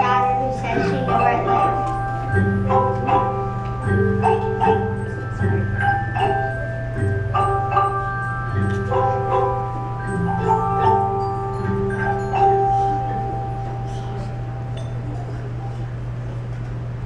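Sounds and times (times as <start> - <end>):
xylophone and glockenspiel notes: 0.0 - 15.8
steady low hum: 0.0 - 17.0.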